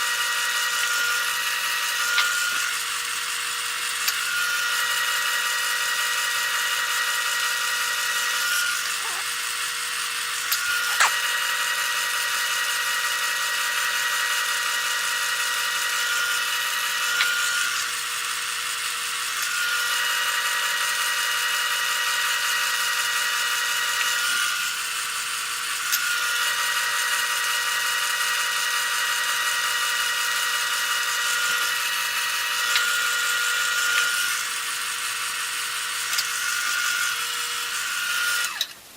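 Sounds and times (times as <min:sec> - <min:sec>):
wood lathe motor whine: 0:00.0 - 0:38.9.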